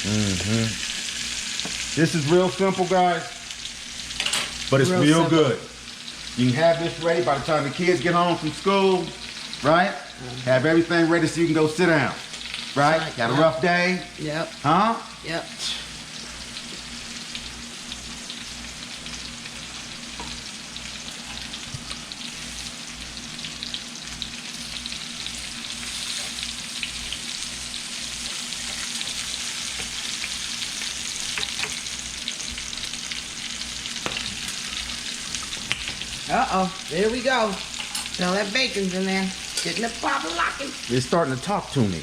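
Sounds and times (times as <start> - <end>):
food sizzling in a pan: 0.0 - 42.0.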